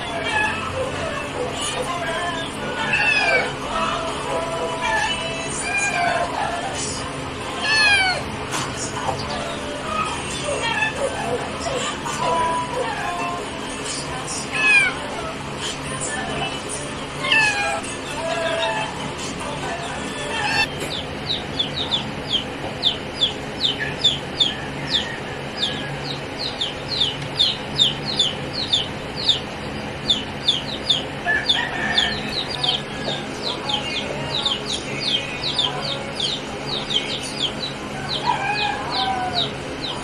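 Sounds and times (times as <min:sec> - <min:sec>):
chicks peeping: 0:00.0 - 0:40.0.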